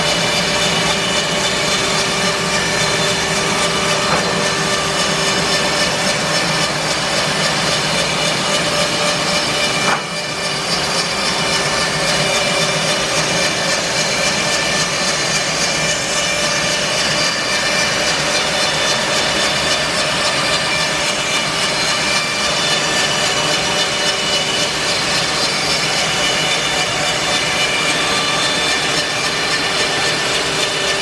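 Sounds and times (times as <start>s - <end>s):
bandsaw mill sawing log: 0.0s - 31.0s.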